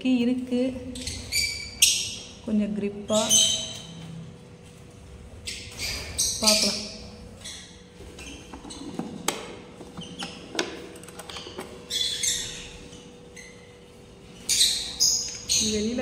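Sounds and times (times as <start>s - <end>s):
small bird chirping: 0.8s - 4.0s, 5.4s - 10.5s, 11.1s - 16.0s.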